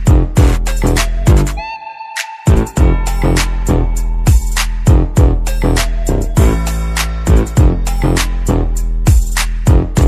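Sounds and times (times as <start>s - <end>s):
music with heavy kick drum: 0.0s - 1.6s, 2.5s - 10.0s.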